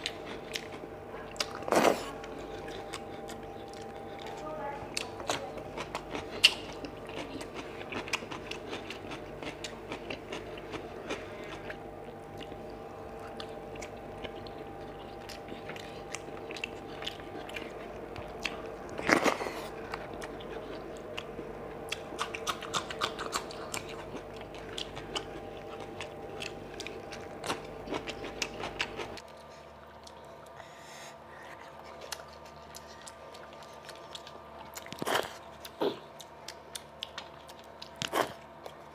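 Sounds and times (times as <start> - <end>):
steady hum: 0.0 - 38.9
wet chewing and mouth clicks: 0.0 - 38.9.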